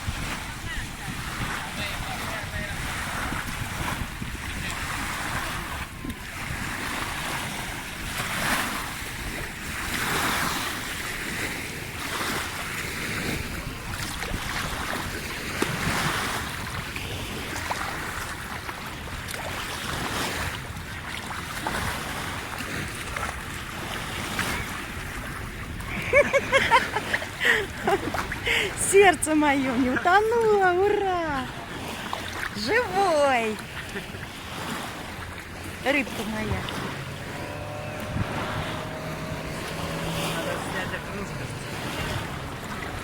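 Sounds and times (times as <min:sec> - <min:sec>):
sea waves washing: 0:00.0 - 0:43.0
wind buffeting microphone: 0:00.0 - 0:43.0.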